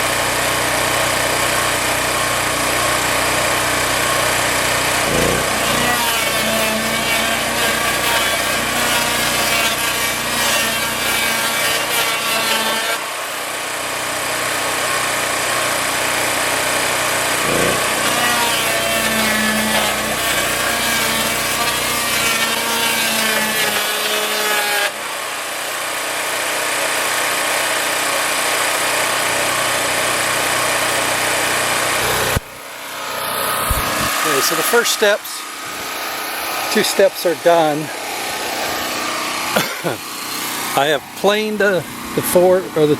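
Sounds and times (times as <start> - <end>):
power saw cutting a board: 0.0 - 42.9
saw motor running without load: 0.0 - 42.9.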